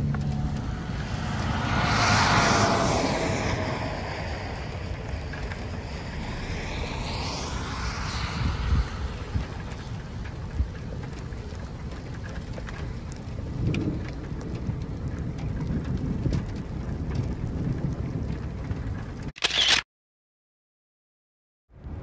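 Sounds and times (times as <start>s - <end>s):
wind buffeting microphone: 0.0s - 19.3s.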